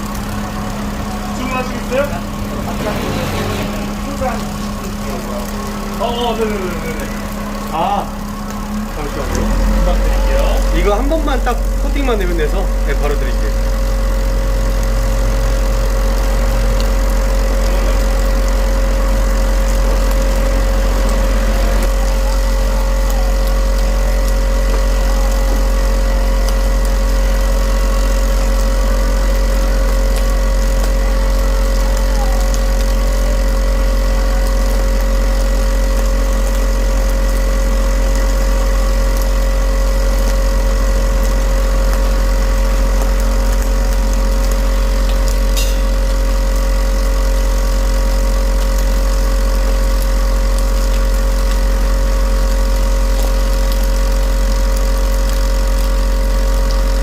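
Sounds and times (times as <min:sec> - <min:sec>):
machine hum with whining tones: 0:00.0 - 0:57.0.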